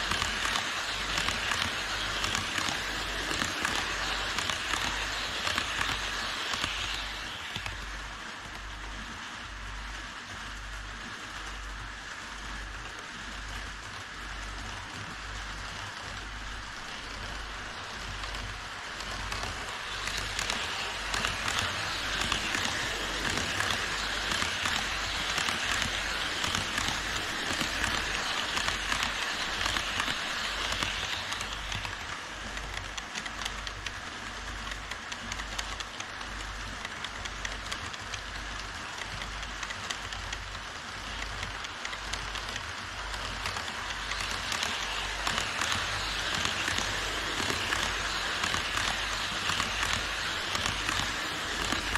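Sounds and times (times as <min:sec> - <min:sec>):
model trains rolling on track: 0:00.0 - 0:51.9.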